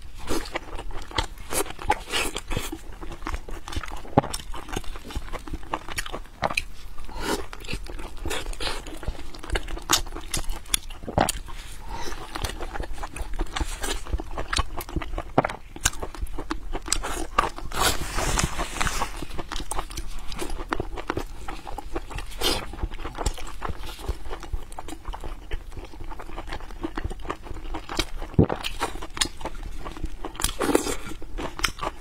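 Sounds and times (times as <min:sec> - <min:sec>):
wet chewing and lip-smacking: 0:00.1 - 0:32.0.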